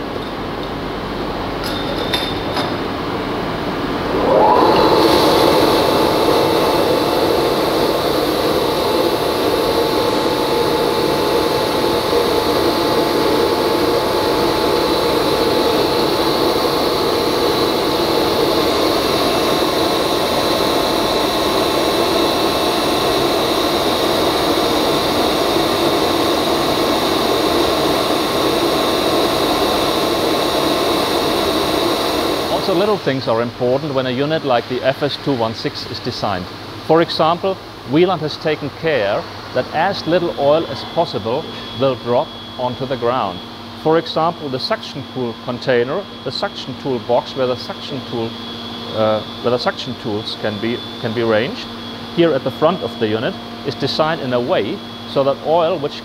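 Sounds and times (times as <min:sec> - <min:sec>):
industrial vacuum running: 0:00.0 - 0:56.0.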